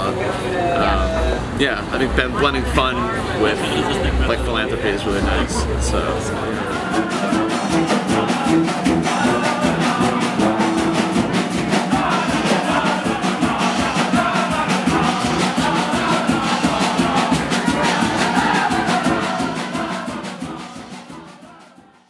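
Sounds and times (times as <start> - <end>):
brass band playing: 0.8 - 21.9
steady drum beat: 0.8 - 21.9.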